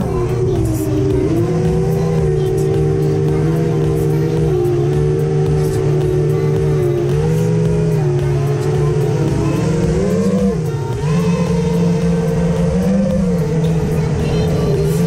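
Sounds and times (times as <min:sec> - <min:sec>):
bass notes over steady beat: 0:00.0 - 0:15.0.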